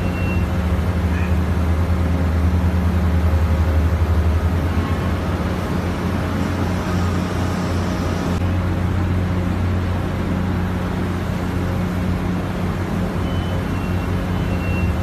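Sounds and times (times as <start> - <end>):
crane machinery droning: 0.0 - 15.0.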